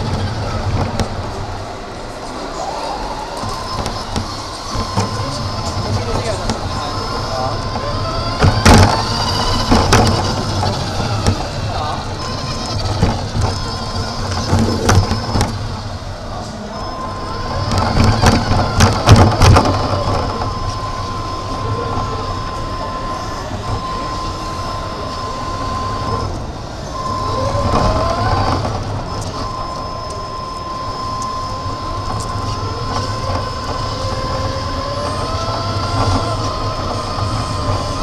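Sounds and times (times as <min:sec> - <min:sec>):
toy car motor whining: 0:02.4 - 0:38.0.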